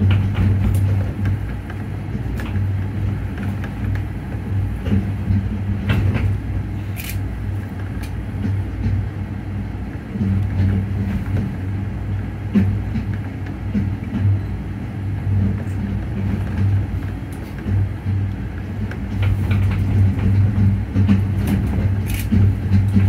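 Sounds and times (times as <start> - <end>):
suspended cable car rumble: 0.0 - 23.0.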